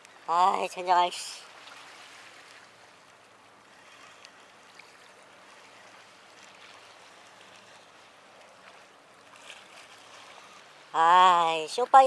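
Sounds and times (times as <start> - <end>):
sea water lapping: 0.0 - 12.0.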